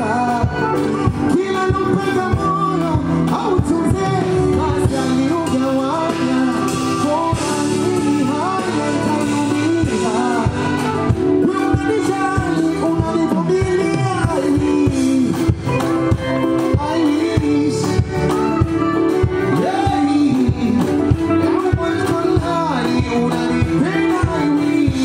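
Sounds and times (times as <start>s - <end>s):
guitar: 0.0s - 25.0s
person singing: 0.0s - 25.0s.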